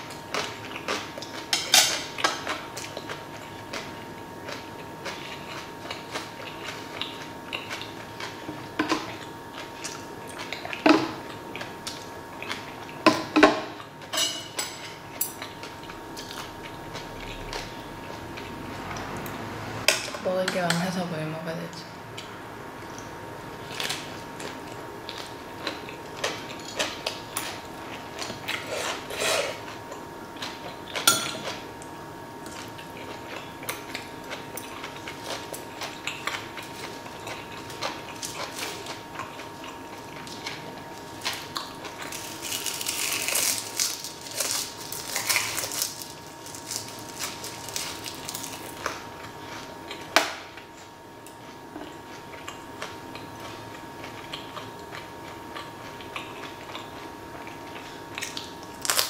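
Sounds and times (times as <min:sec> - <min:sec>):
chewing vegetables: 0:00.0 - 0:13.0, 0:14.9 - 0:19.4, 0:22.2 - 0:59.0.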